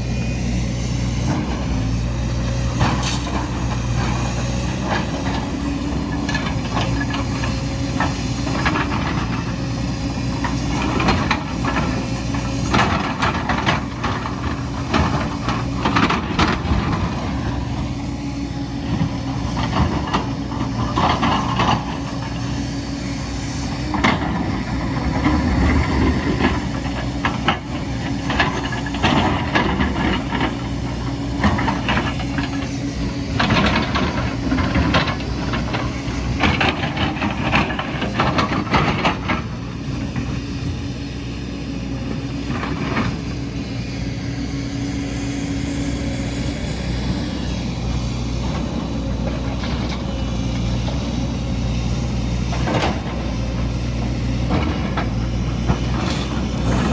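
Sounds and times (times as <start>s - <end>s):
diesel construction machine running: 0.0s - 56.9s.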